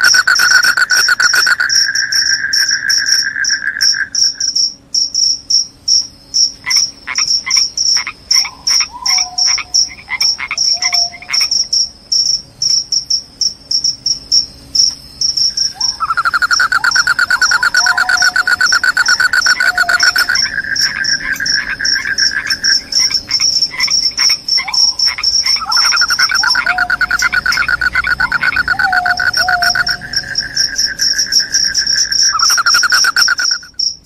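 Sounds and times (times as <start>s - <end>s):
crickets chirping: 0.0s - 34.0s
low continuous trill: 0.0s - 34.0s.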